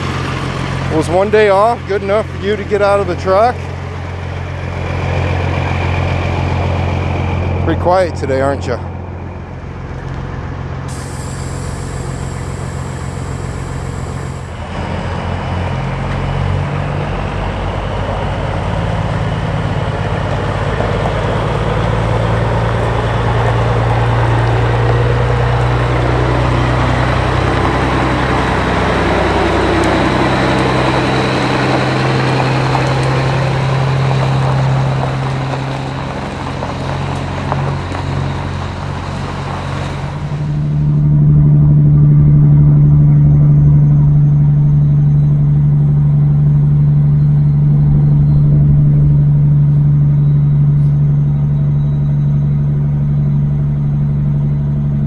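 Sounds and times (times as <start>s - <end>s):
diesel truck engine: 0.0s - 55.0s.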